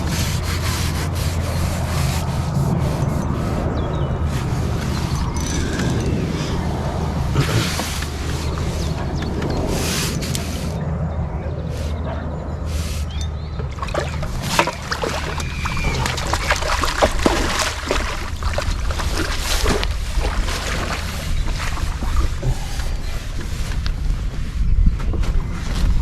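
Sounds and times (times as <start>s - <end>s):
water splashing: 0.0s - 10.7s, 12.8s - 23.6s
steady low rumble: 0.0s - 26.0s.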